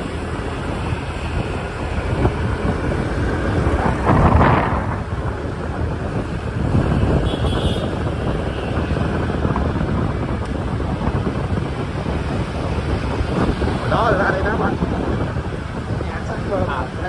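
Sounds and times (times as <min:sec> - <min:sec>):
passing motorbikes and cars: 0:00.0 - 0:17.0
wind rumbling on microphone: 0:00.0 - 0:17.0.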